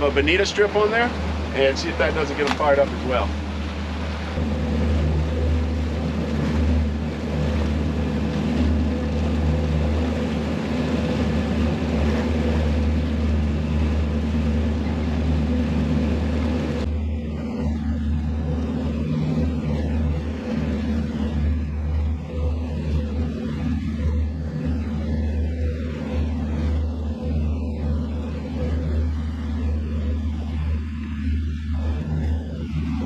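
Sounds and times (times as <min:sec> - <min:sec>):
outboard engines droning: 0:00.0 - 0:33.0.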